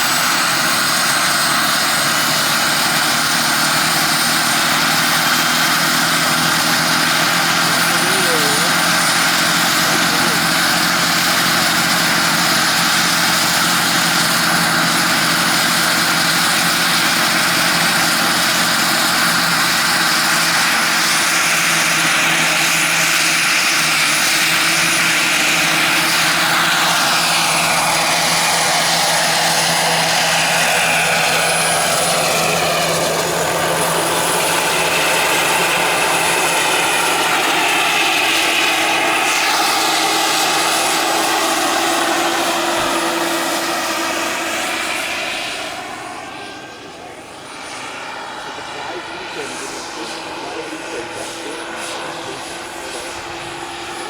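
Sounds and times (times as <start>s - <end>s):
helicopter rotor noise: 0.0s - 54.0s
high turbine whine: 0.0s - 54.0s.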